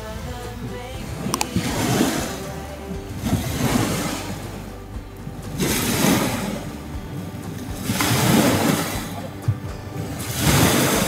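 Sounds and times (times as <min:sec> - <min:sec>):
background music: 0:00.0 - 0:11.0
waves washing onto gravel: 0:01.2 - 0:04.8, 0:05.4 - 0:11.0.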